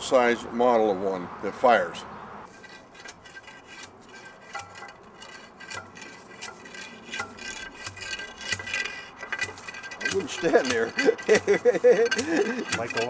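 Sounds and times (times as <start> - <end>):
rammer scraping inside metal barrel: 2.5 - 13.0.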